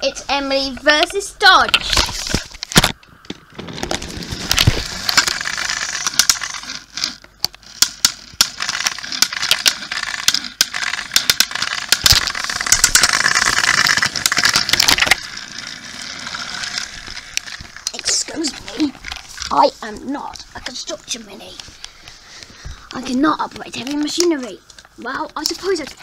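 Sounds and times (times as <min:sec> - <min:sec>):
scraping and rustling: 0:01.6 - 0:02.9, 0:03.5 - 0:24.9
plastic toys clicking and rattling: 0:03.6 - 0:21.7, 0:22.9 - 0:26.0.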